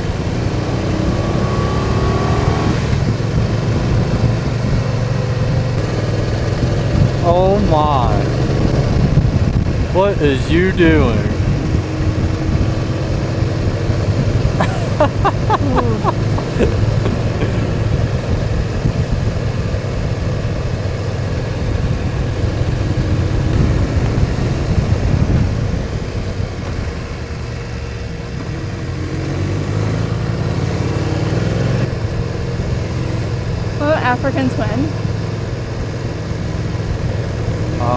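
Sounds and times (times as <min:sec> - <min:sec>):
motorcycle engine running: 0:00.0 - 0:37.9
wind and road noise: 0:00.0 - 0:37.9.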